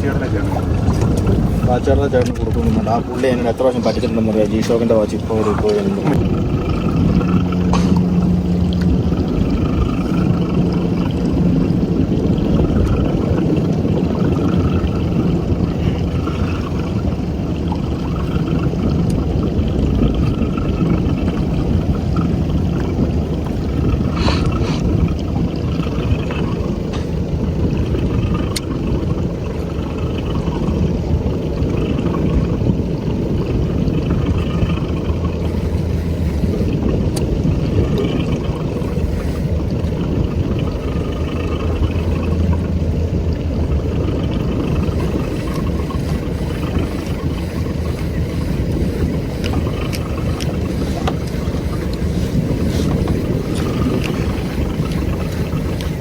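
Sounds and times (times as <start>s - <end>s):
motorboat engine droning: 0.0s - 56.0s
water noise: 0.0s - 56.0s
wind noise: 0.0s - 56.0s.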